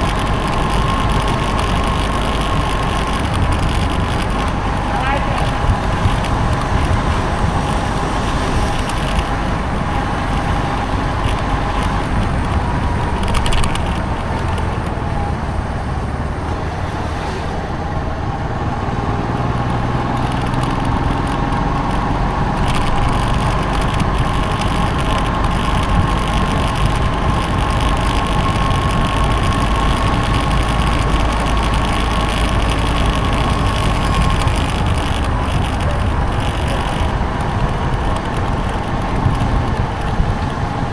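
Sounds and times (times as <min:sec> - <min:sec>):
motorcycle engine running: 0:00.0 - 0:16.4, 0:17.8 - 0:40.9
constant rushing noise: 0:00.0 - 0:40.9.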